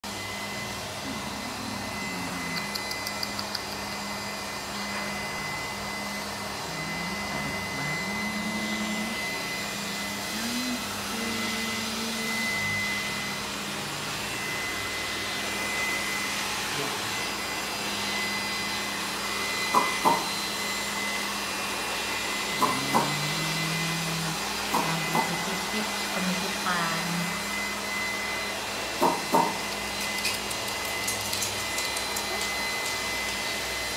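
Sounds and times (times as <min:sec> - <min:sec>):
motor hum with high whine: 0:00.1 - 0:33.9.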